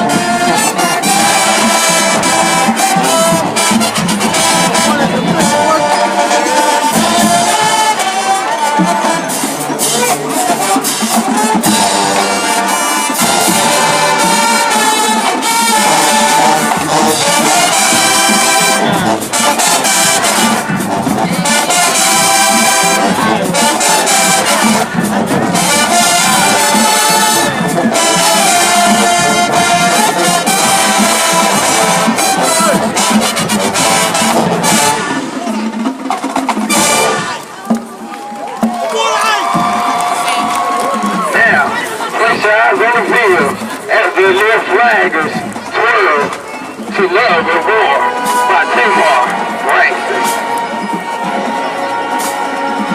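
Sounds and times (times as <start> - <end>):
brass section melody: 0.0 - 52.9
drumline hits: 0.0 - 52.9
marching band playing: 0.0 - 52.9.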